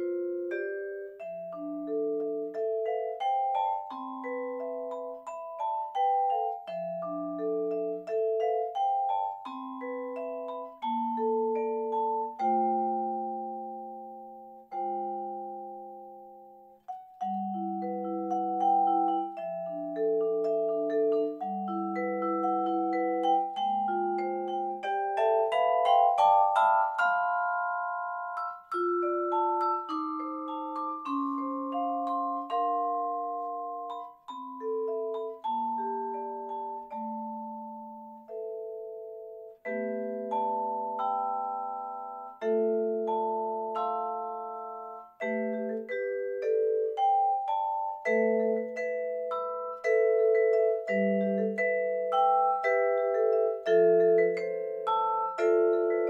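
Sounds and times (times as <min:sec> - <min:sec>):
vibraphone notes and chords: 0:00.0 - 0:56.0.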